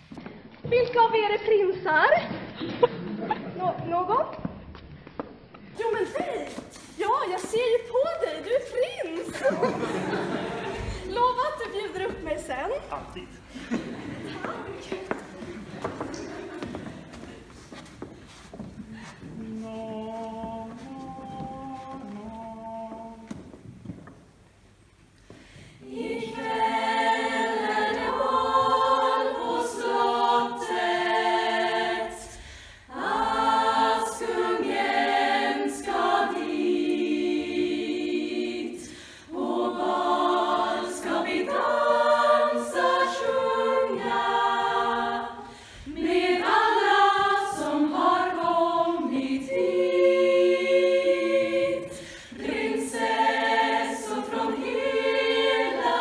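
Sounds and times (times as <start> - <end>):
women's choir singing: 5.8 - 12.5, 13.4 - 23.5, 25.7 - 56.0.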